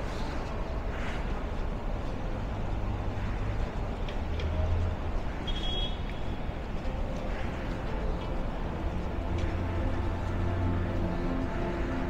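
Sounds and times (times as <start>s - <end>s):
passing vehicles: 0.0s - 12.0s.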